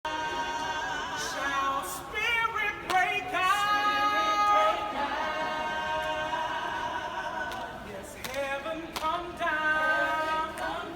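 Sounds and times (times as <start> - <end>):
unaccompanied gospel singing: 0.0 - 10.9.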